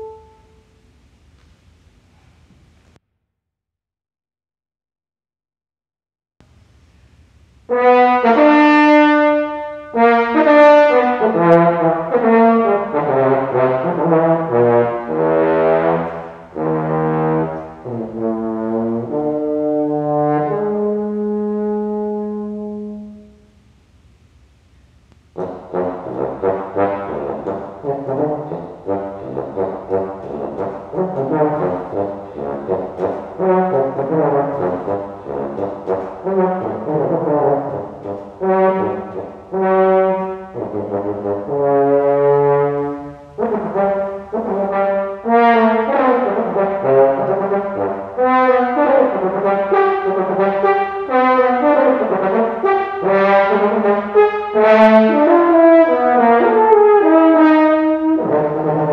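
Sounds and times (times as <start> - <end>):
french horn solo: 0.0 - 0.8, 7.7 - 23.8, 25.3 - 58.9.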